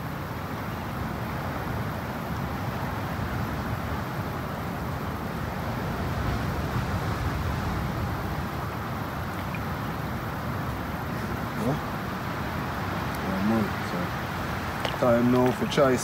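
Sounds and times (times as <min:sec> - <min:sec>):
outdoor rumble and hiss: 0:00.0 - 0:16.0.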